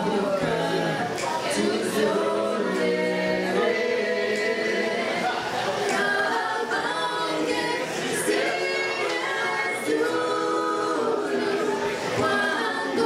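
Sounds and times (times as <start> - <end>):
group singing in harmony: 0.0 - 13.0.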